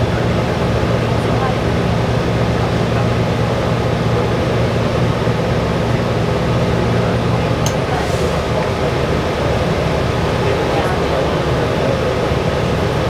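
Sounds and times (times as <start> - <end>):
bus interior hum and rumble: 0.0 - 13.0.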